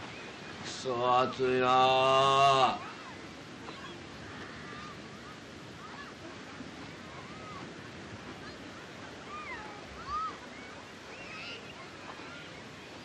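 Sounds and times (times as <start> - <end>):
faint high calls: 0.0 - 7.7, 8.6 - 13.0
ocean surf breaking: 0.0 - 13.0.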